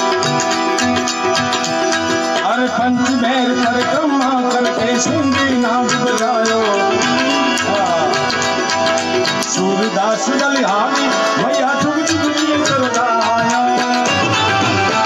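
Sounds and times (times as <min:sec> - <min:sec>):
hand drum: 0:00.0 - 0:15.0
held instrumental tones: 0:00.0 - 0:15.0
man singing: 0:02.3 - 0:15.0.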